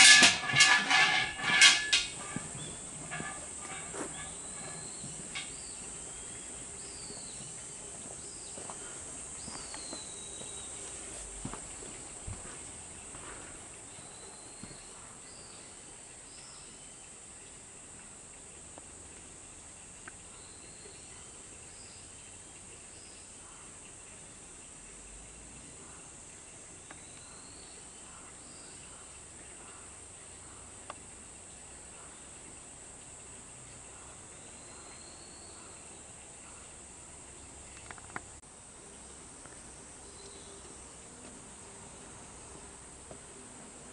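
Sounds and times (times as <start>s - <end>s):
high drone of insects: 0.0s - 43.9s.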